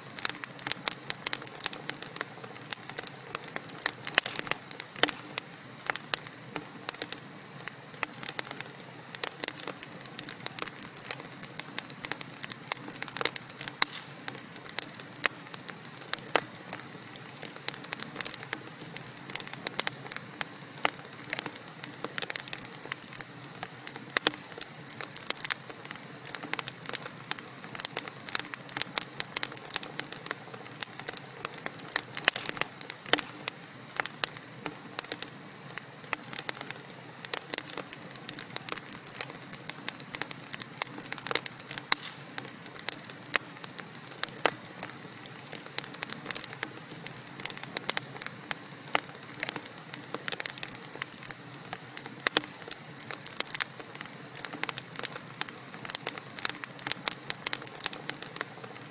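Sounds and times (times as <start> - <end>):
logs crackling and popping: 0.0 - 58.9
soft hiss: 0.0 - 58.9.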